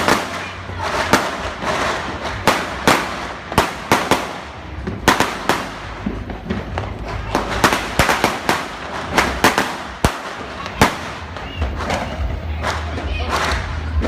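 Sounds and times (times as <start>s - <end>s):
continuous firework crackle: 0.0s - 14.0s
firecracker bangs: 0.0s - 14.0s.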